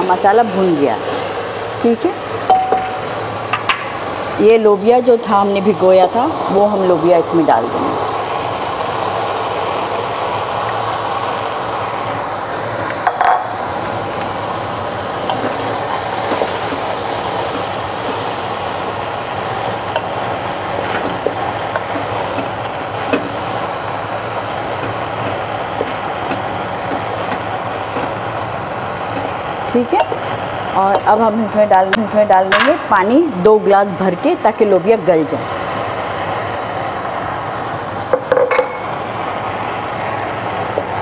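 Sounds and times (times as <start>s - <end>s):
cooking hiss: 0.0s - 41.0s.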